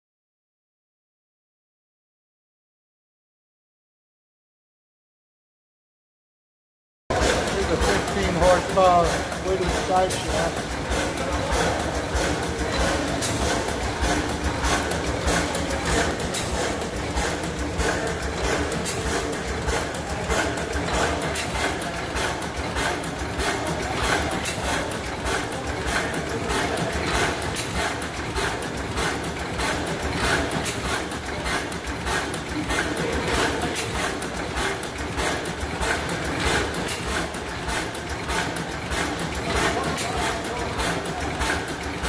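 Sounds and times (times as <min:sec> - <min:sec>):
stationary gas engine running: 0:07.1 - 0:42.0
valve gear clicking: 0:07.2 - 0:42.0.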